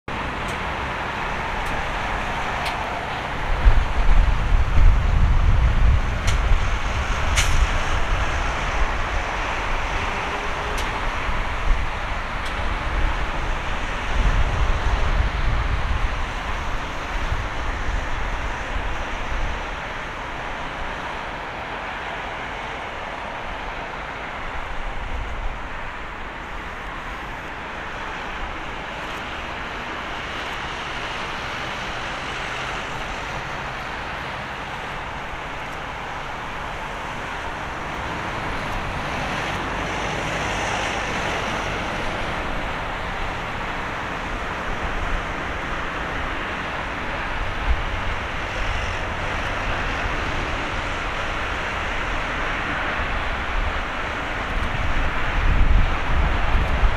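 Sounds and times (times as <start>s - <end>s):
distant jet engines rushing: 0.1s - 56.9s.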